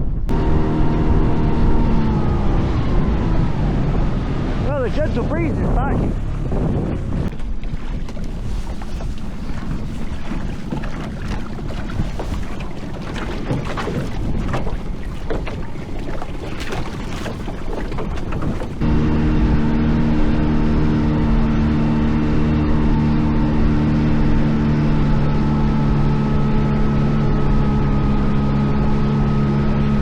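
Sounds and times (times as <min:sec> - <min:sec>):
motor hum: 0:00.0 - 0:30.0
wind buffeting microphone: 0:00.0 - 0:30.0
water splashing against boat: 0:00.3 - 0:30.0.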